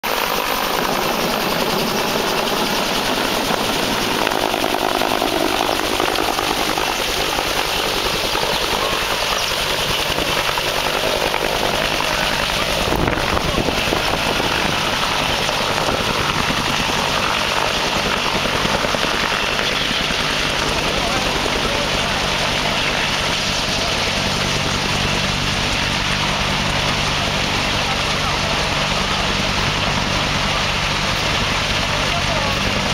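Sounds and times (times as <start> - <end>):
helicopter rotor and turbine: 0.0 - 32.9
rotor wash rushing: 0.1 - 32.9.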